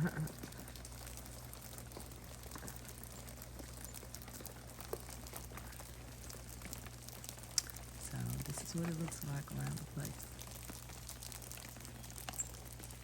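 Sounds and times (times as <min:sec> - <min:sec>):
melting ice dripping: 0:00.0 - 0:13.0.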